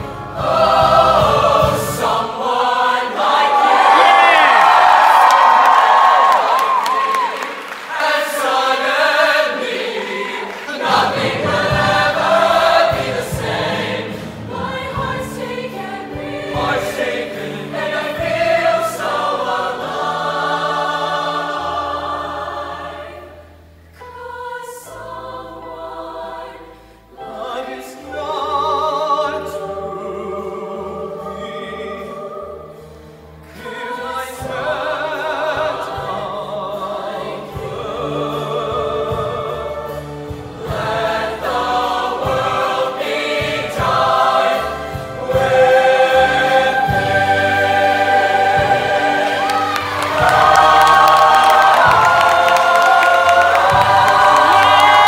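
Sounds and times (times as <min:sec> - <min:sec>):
choir singing in harmony: 0:00.0 - 0:55.0
musical accompaniment: 0:00.0 - 0:55.0.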